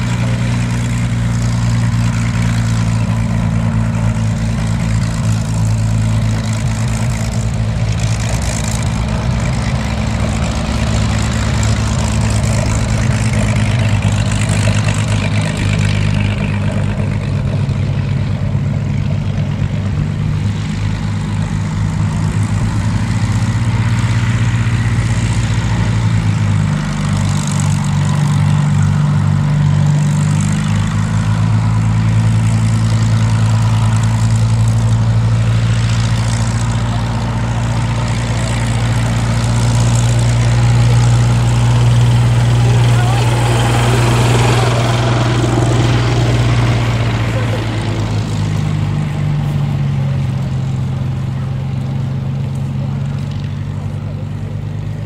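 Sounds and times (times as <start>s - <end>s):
propeller plane engine taxiing: 0.0s - 55.0s.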